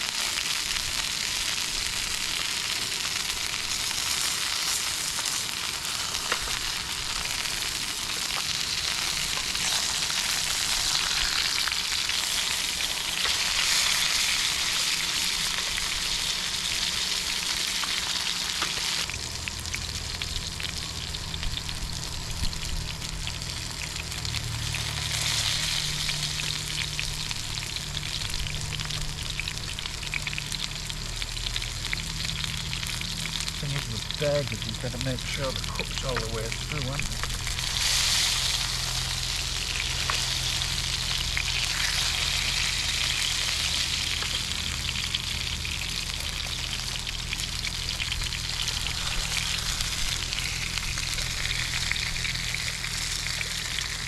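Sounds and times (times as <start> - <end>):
burgers sizzling in a pan: 0.0 - 54.0
low steady hum: 0.7 - 54.0.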